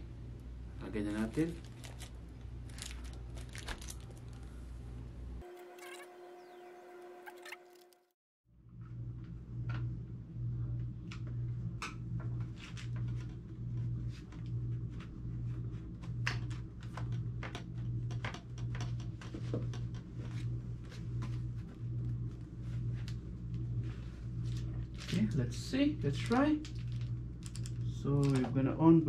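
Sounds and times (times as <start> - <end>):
steady low hum: 0.0 - 7.2, 8.5 - 29.0.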